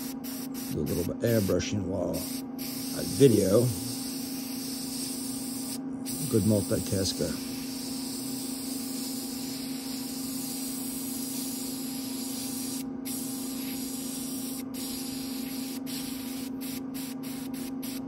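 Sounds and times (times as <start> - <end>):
airbrush spraying hiss: 0.0 - 18.0.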